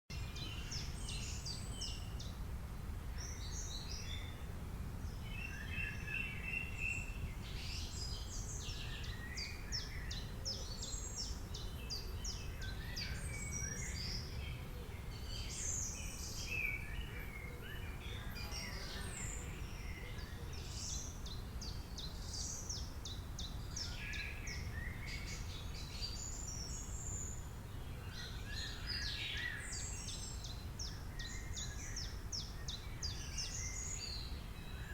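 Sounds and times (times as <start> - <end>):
songbirds chirping and singing: 5.1 - 34.9.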